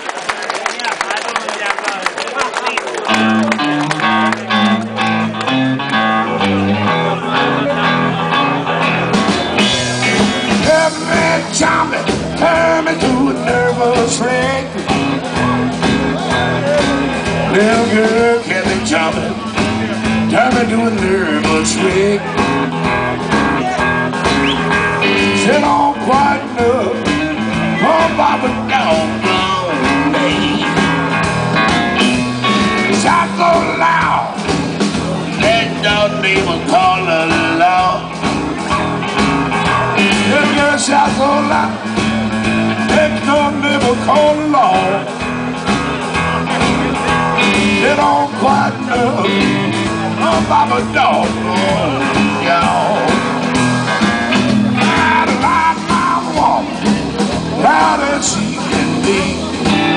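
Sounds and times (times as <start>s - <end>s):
blues-rock band playing: 2.6s - 59.9s
bending lead guitar notes: 3.0s - 59.9s.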